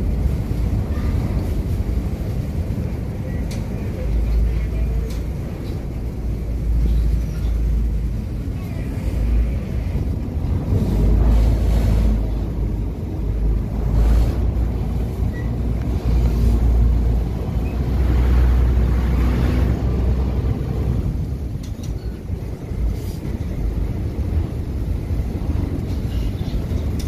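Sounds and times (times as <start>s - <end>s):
ferry engine running: 0.0s - 27.0s
wind rumbling on microphone: 0.0s - 27.0s.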